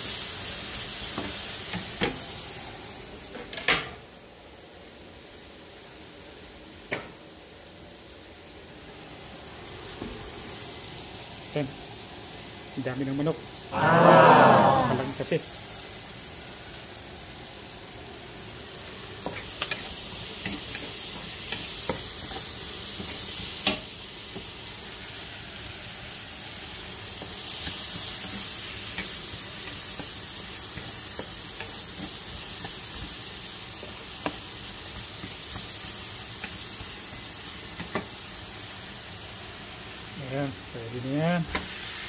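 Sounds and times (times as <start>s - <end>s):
onions sizzling in a wok: 0.0s - 42.0s.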